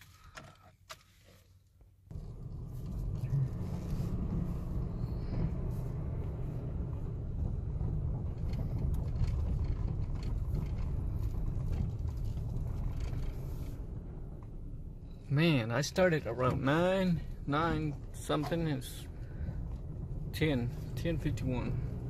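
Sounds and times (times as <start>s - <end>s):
engine running low rumble: 1.9s - 22.0s.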